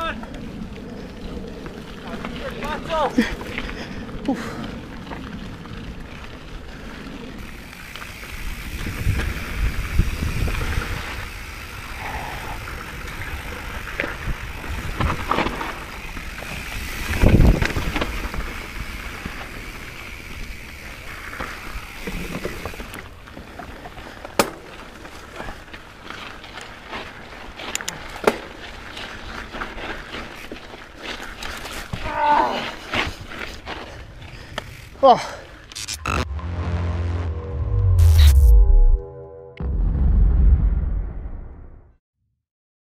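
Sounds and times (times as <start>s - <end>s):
bike rattling: 0.0s - 35.9s
bike tyres rolling over dirt: 0.0s - 35.9s.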